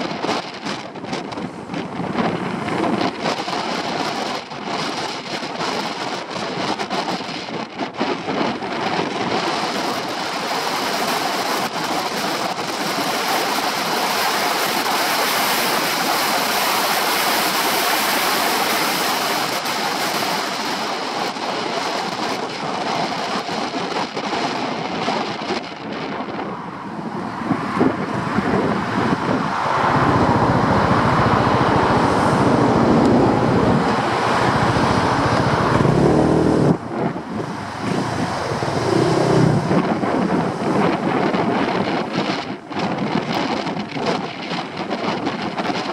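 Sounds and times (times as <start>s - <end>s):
scooter engine: 0.0s - 45.9s
traffic: 0.0s - 45.9s
wind buffeting on microphone: 0.0s - 45.9s.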